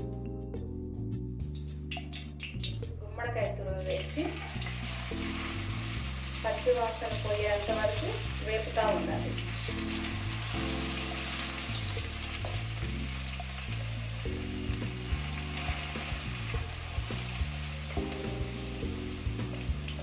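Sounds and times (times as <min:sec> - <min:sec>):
soft background music: 0:00.0 - 0:20.0
pumpkin sizzling in pan: 0:03.8 - 0:20.0.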